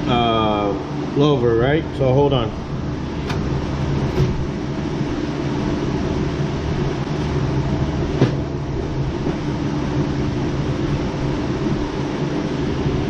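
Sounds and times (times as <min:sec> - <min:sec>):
mechanical drone with low hum: 0:00.0 - 0:13.0.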